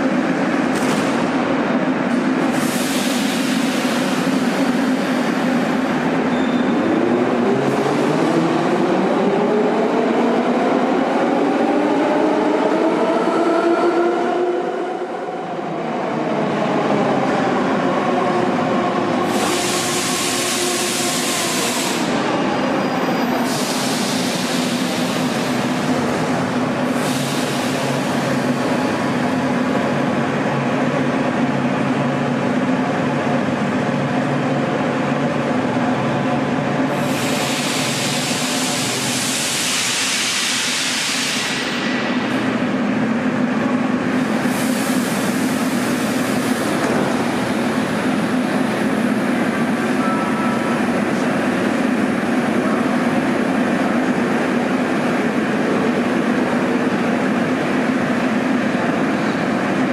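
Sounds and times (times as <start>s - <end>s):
metro train arriving and stopping: 0.0s - 59.9s.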